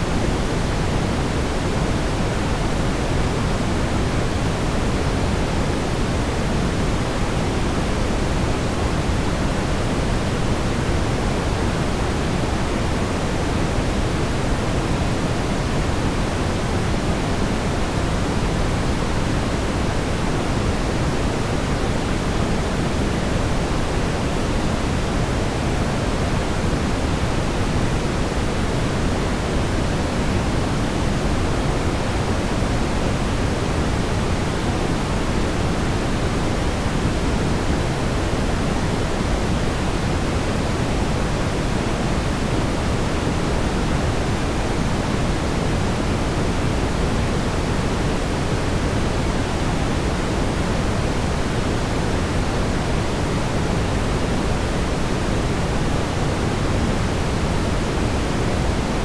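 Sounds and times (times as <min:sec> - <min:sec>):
brown noise hiss: 0:00.0 - 0:59.0.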